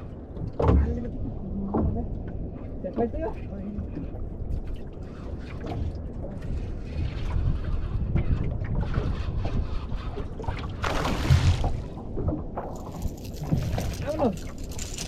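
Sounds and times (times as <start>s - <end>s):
water rumbling around boat: 0.0s - 15.0s
wind buffeting microphone: 0.0s - 15.0s.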